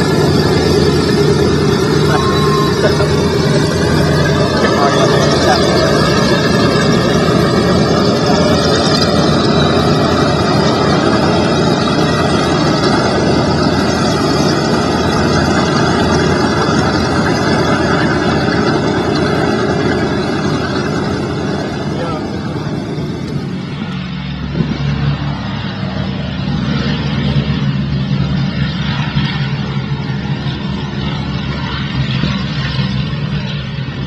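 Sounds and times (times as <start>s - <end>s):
radial aircraft engines droning: 0.0s - 34.0s.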